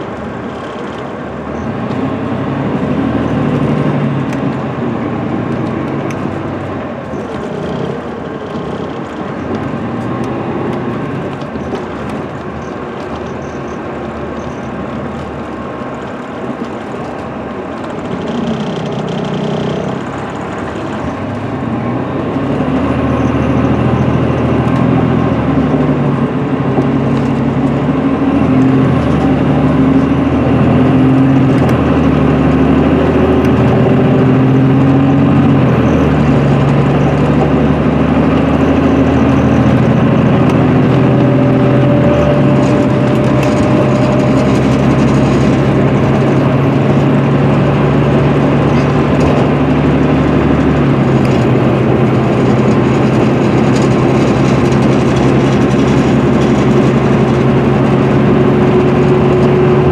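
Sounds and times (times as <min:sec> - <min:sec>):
diesel engine accelerating: 0:00.0 - 0:59.9
road and tyre noise: 0:00.0 - 0:59.9
transmission gear shifts: 0:00.1 - 0:59.9.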